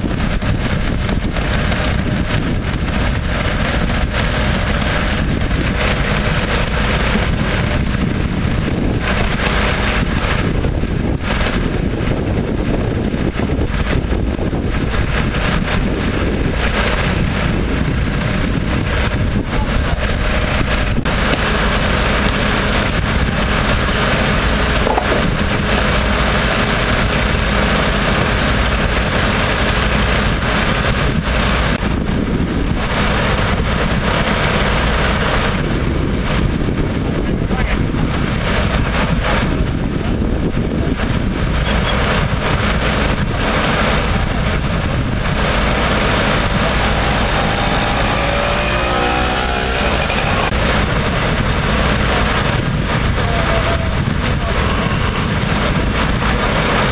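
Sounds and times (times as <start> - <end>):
hydraulic power unit engine running: 0.0 - 56.9.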